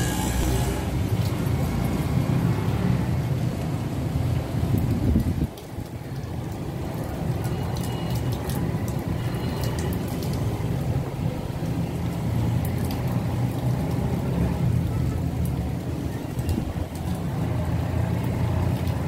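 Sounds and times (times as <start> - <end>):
raindrops ticking: 0.0 - 19.0.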